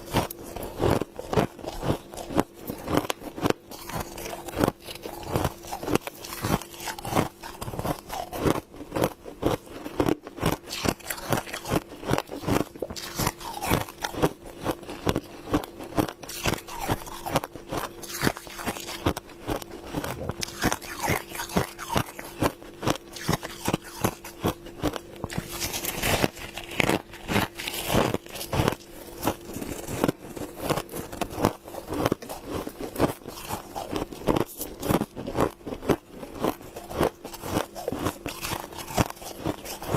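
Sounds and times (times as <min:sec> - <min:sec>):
faint hum: 0:00.0 - 0:39.9
person chewing crunchy frost: 0:00.0 - 0:39.9.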